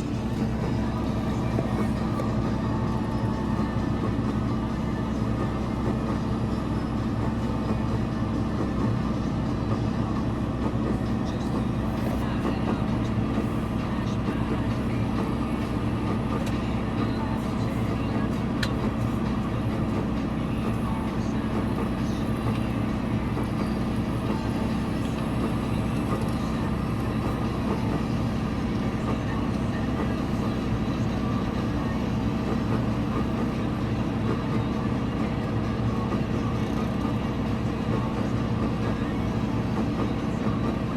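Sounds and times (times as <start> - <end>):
farm vehicle engine running: 0.0 - 40.9.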